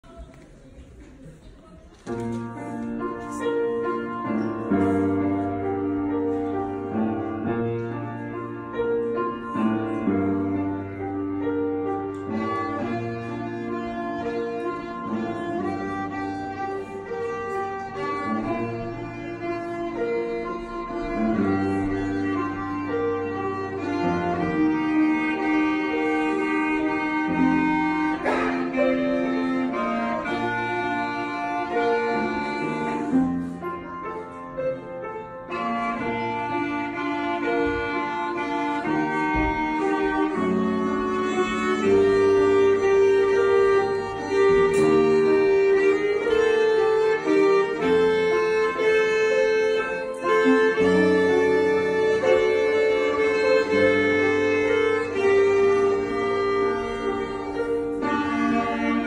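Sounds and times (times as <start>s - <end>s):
violin melody: 1.9s - 59.0s
clarinet melody: 2.6s - 59.0s.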